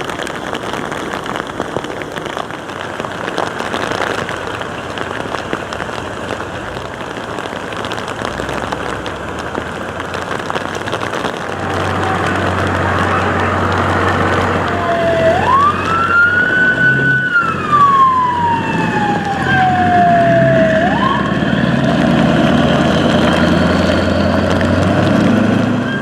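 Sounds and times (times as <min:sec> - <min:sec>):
heavy rain pattering: 0:00.0 - 0:26.0
vehicle engine hum: 0:02.2 - 0:26.0.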